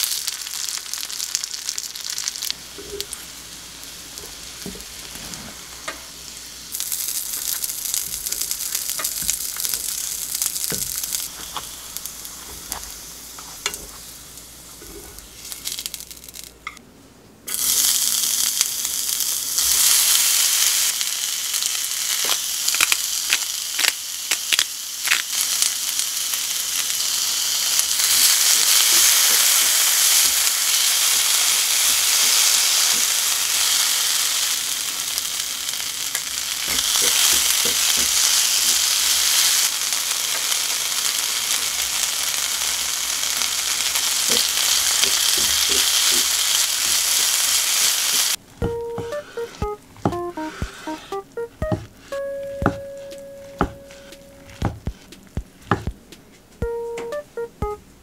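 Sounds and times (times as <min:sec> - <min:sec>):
food sizzling in oil: 0:00.0 - 0:16.7, 0:17.5 - 0:55.0.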